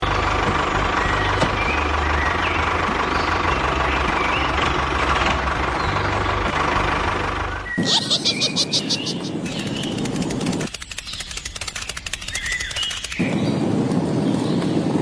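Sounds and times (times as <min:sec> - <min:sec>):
heavy vehicle engine humming: 0:00.0 - 0:14.2.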